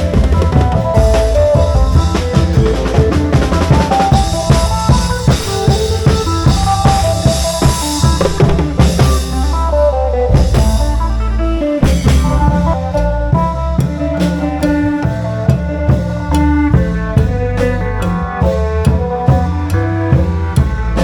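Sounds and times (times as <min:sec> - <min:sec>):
fast melodic line: 0:00.0 - 0:18.4
drums beating steady rhythm: 0:00.0 - 0:21.0.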